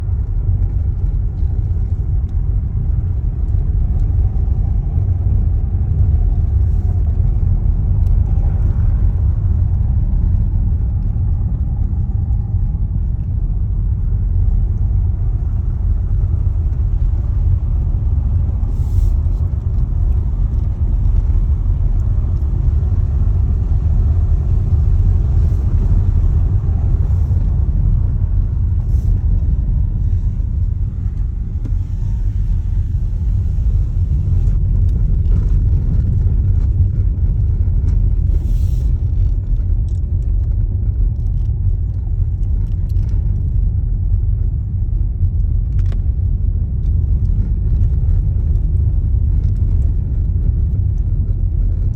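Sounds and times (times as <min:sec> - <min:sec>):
road and tyre noise: 0:00.0 - 0:51.9.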